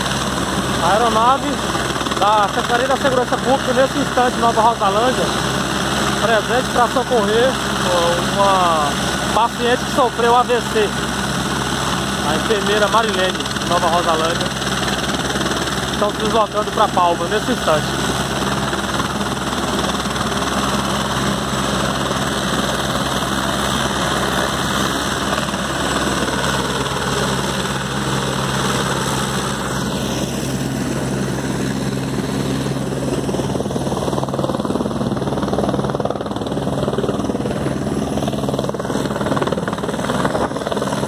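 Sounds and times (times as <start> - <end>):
helicopter engine and rotor: 0.0 - 41.0.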